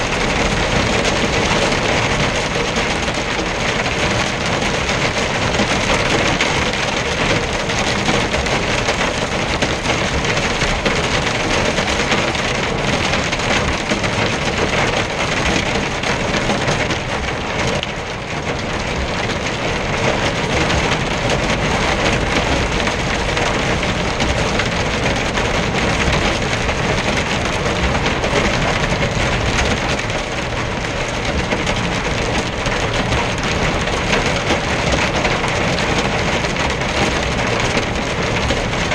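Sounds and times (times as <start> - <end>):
heavy rain drumming on truck cab: 0.0 - 38.9.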